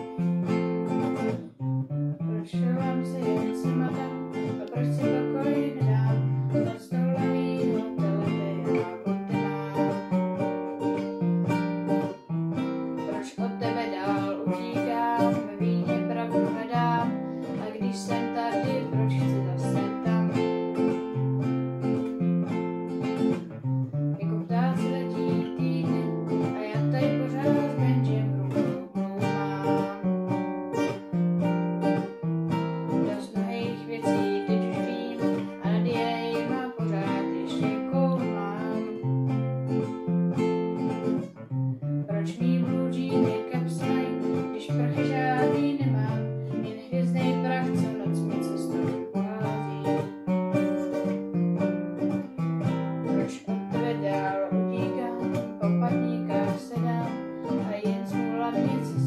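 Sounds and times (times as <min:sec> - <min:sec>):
acoustic guitars playing: 0:00.0 - 0:59.0.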